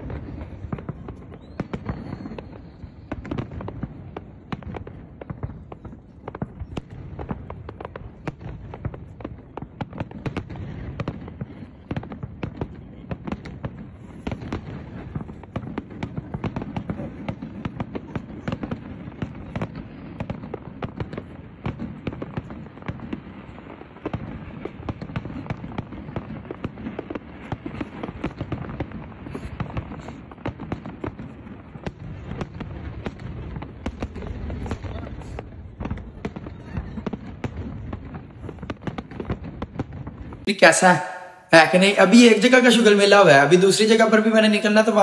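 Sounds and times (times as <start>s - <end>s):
fireworks cracking and popping: 0.0s - 45.0s.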